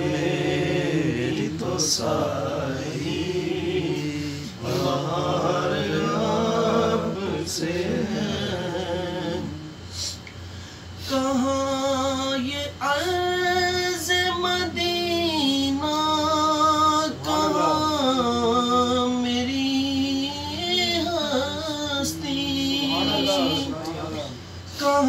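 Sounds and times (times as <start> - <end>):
man singing unaccompanied: 0.0 - 9.9, 11.0 - 25.0.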